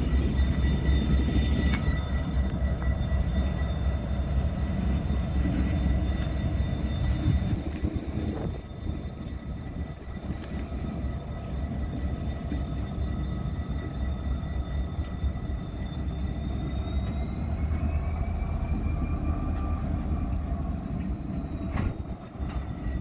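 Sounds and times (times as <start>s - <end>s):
diesel locomotives rumbling past: 0.0s - 23.0s.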